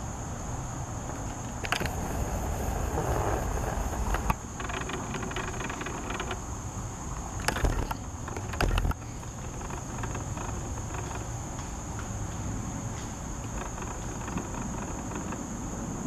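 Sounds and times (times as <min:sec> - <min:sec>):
distant road traffic rumble: 0:00.0 - 0:16.0.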